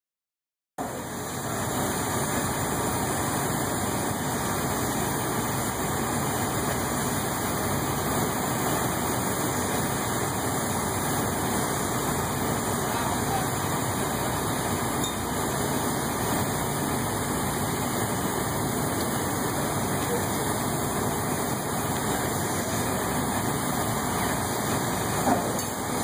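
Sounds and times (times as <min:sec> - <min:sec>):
heavy diesel engines idling: 0:00.8 - 0:26.0.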